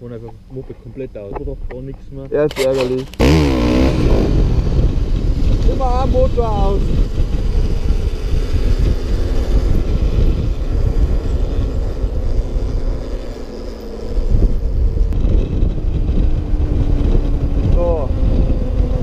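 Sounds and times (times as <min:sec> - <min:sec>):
faint engine drone: 0:00.0 - 0:19.0
wind rushing over microphone: 0:00.0 - 0:19.0.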